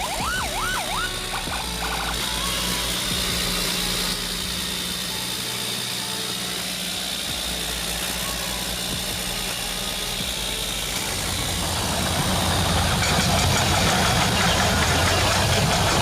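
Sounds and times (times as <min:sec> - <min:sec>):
thin high whine: 0:00.0 - 0:16.0
toy excavator motor humming: 0:00.0 - 0:16.0.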